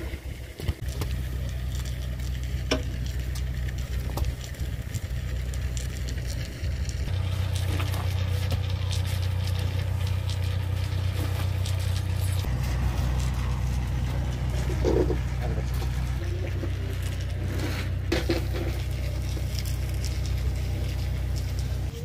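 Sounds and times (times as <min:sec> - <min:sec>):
juice boiling with crackling sizzle: 0:00.0 - 0:22.0
steady low hum: 0:00.0 - 0:22.0.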